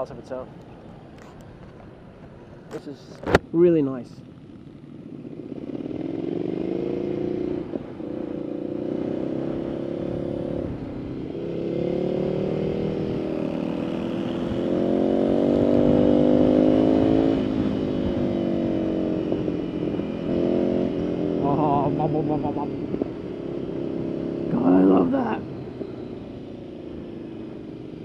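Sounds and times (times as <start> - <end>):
motorcycle engine accelerating: 4.4 - 28.0.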